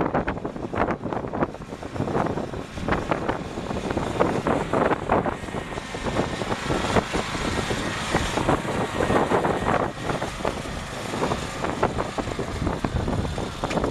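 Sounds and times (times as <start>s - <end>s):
lawn tractor engine running: 0.0s - 13.9s.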